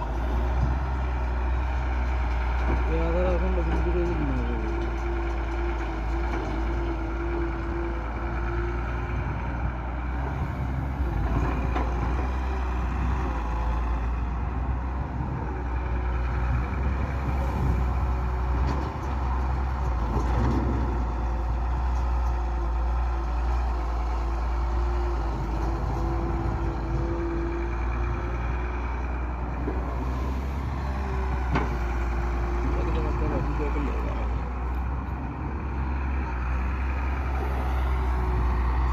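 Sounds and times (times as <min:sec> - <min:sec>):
diesel tractor engines humming: 0:00.0 - 0:38.9.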